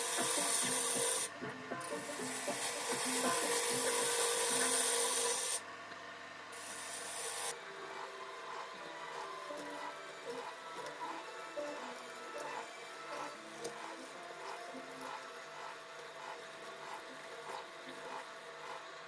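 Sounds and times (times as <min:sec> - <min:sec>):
gouge shaving wood on a lathe: 0:00.0 - 0:05.6, 0:06.6 - 0:19.0.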